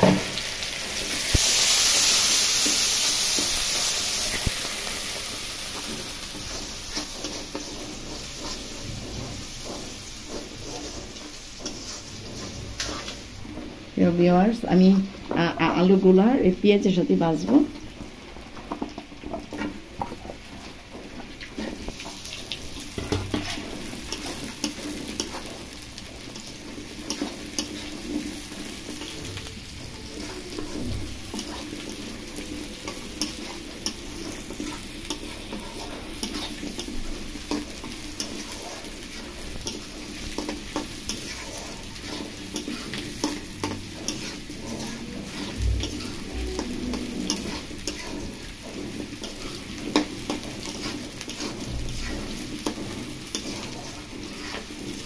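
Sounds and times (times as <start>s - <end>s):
potatoes and onion sizzling in oil: 0.0s - 55.0s
metal spatula scraping pan: 2.6s - 13.8s, 19.5s - 55.0s.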